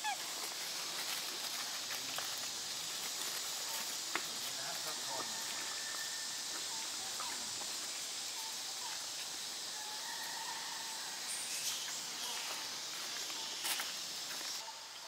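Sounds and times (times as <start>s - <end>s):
insect chorus droning: 0.0s - 15.0s.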